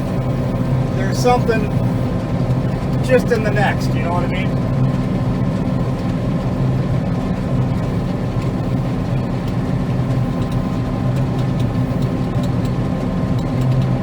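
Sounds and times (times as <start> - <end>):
combine harvester engine drone: 0.0 - 14.0
constant low hum: 0.0 - 14.0.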